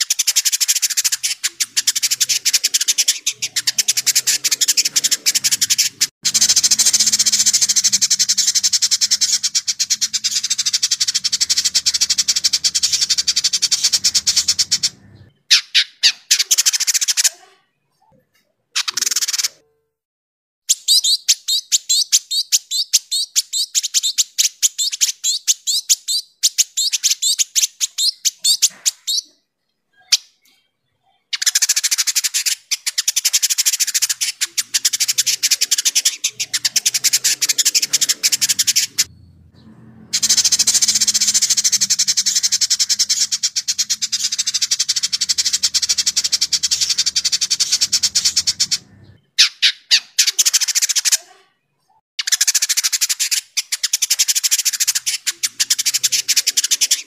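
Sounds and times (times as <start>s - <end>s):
bird singing rapid high chatter: 0.0s - 19.7s, 20.7s - 57.0s.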